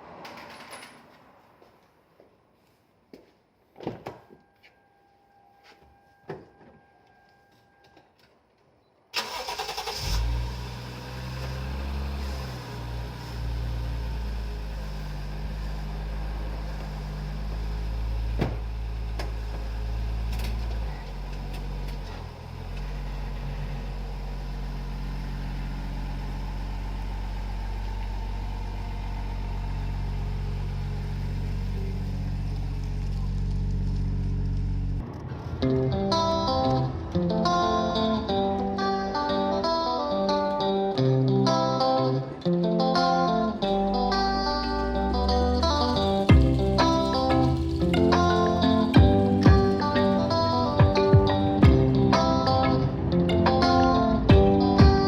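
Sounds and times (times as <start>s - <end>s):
car engine starting and idling: 9.1s - 40.0s, 41.3s - 55.0s.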